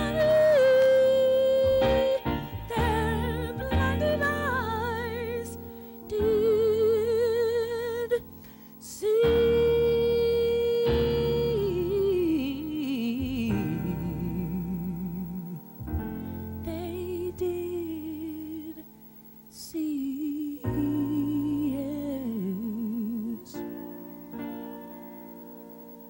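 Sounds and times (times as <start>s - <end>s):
person singing with vibrato: 0.0s - 18.9s, 19.5s - 24.4s.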